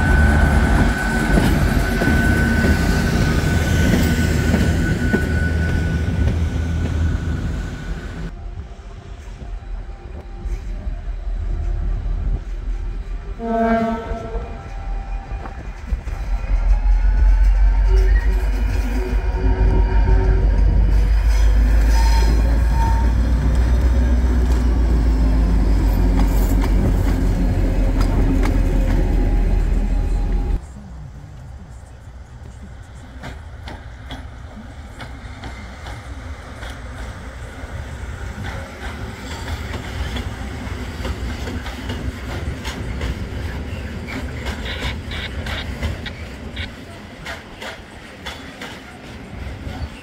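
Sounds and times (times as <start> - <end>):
diesel locomotive engine: 0.0 - 50.0.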